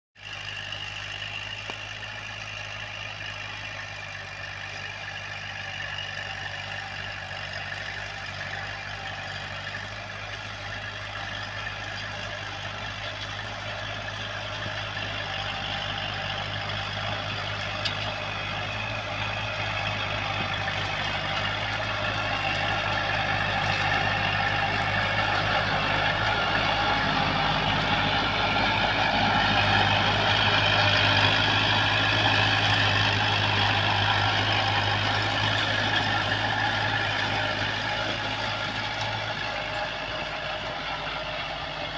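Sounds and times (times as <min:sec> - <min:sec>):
tractor diesel engine running: 0:00.2 - 0:41.9.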